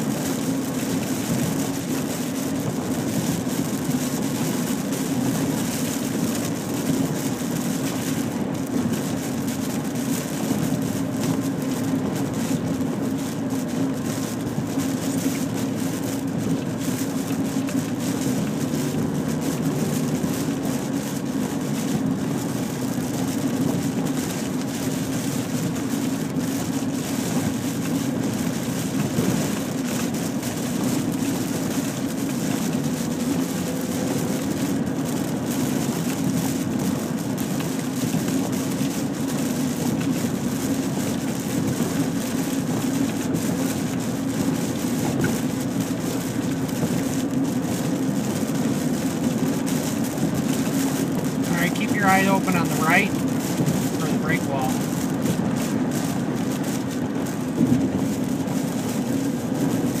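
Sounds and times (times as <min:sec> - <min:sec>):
in-car road noise: 0:00.0 - 1:00.0
rain on car: 0:00.0 - 1:00.0
tyres hissing on wet road: 0:00.0 - 1:00.0.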